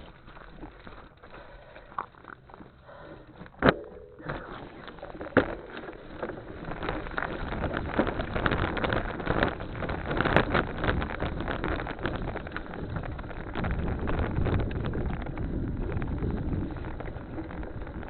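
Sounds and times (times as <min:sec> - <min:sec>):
bicycle rattling clicks and knocks: 0:00.0 - 0:18.0
tyre and wind noise: 0:00.0 - 0:18.0.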